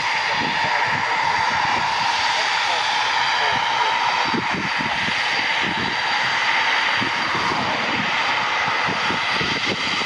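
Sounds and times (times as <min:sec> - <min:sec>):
jet engines whining: 0:00.0 - 0:10.0.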